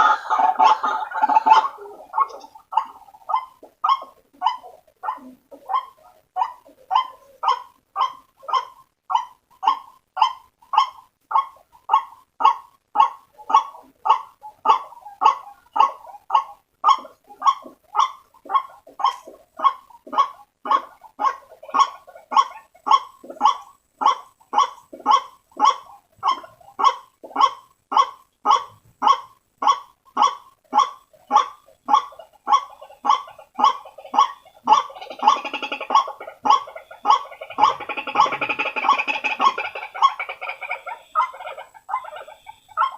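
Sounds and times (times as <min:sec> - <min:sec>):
waterhen croaking call: 0:00.0 - 0:42.9.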